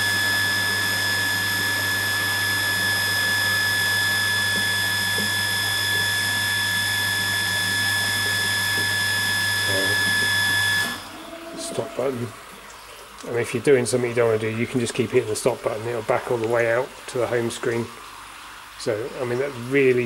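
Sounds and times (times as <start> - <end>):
hot water flowing: 0.0 - 20.0
wash pump high whine: 0.0 - 20.0.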